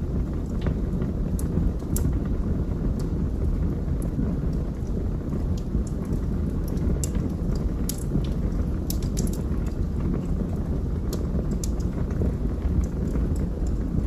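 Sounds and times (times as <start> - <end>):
rush of fireplace flames: 0.0 - 14.0
wood crackling and popping: 0.0 - 14.0.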